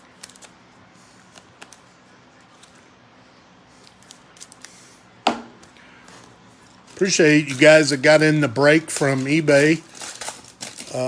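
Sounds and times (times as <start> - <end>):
trading cards and wrappers handled: 0.0 - 3.0, 3.7 - 11.0.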